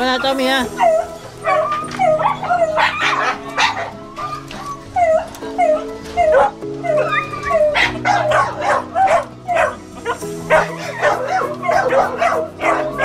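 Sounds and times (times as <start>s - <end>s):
background music: 0.0s - 13.0s
dogs barking and yipping: 0.0s - 13.0s.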